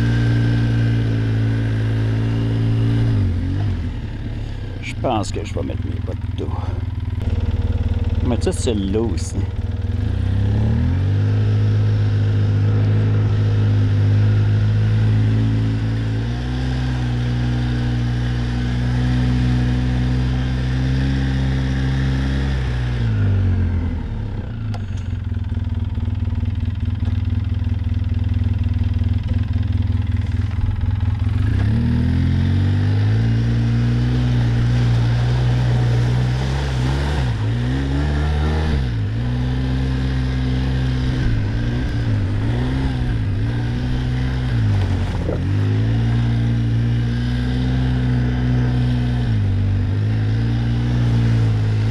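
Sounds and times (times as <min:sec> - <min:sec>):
quad bike engine running: 0:00.0 - 0:51.9.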